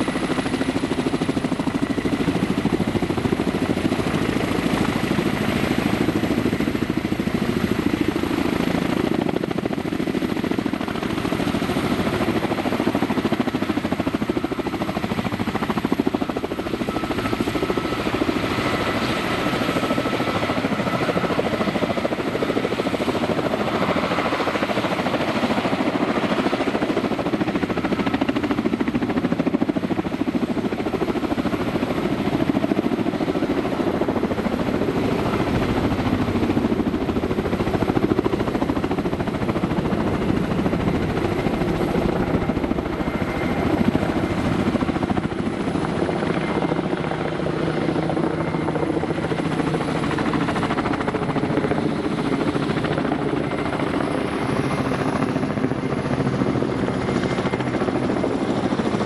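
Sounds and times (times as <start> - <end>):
helicopter rotor chop: 0.0 - 59.0.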